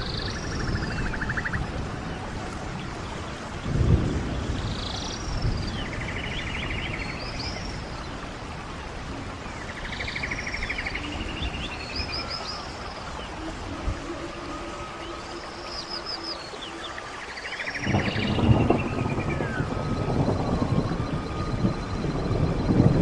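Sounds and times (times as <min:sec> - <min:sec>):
running stream: 0:00.0 - 0:23.0
songbird singing: 0:00.0 - 0:23.0.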